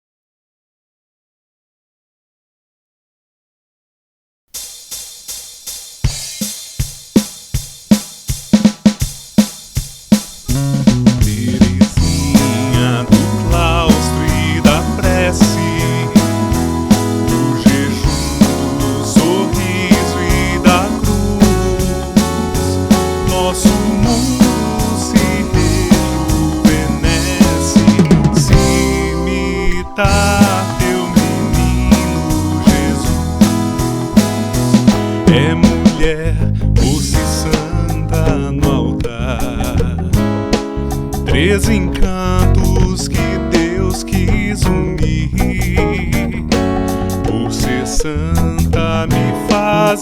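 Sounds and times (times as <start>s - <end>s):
evenly spaced drum hits: 4.5s - 50.0s
pop band playing: 6.0s - 50.0s.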